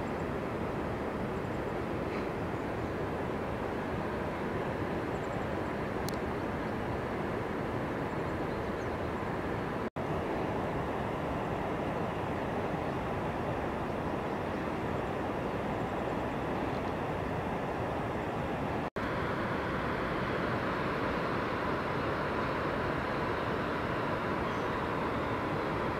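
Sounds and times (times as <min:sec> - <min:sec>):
outdoor rumble and hiss: 0:00.0 - 0:25.9.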